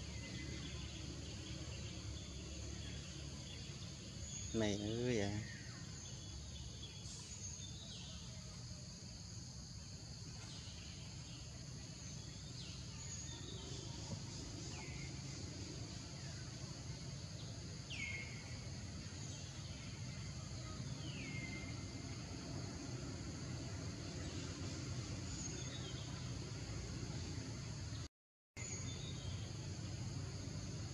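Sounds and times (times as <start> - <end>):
high insect drone: 0.0 - 30.9.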